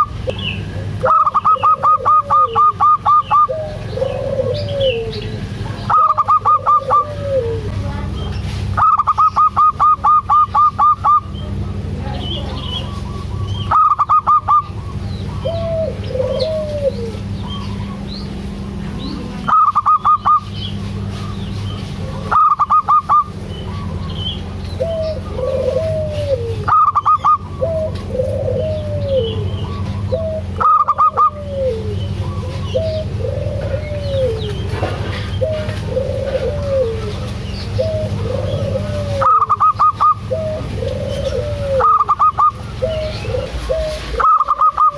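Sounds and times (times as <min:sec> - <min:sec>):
dove staccato song: 0:00.0 - 0:07.7, 0:08.7 - 0:18.3, 0:19.4 - 0:44.9
dove cooing: 0:00.0 - 0:08.1, 0:08.7 - 0:44.9
steady low hum: 0:00.0 - 0:44.9.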